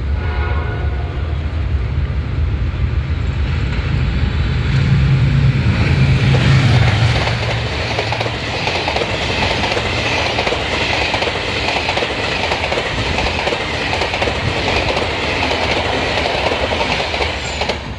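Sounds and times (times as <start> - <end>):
train wheels clattering over rails: 2.9 - 17.9.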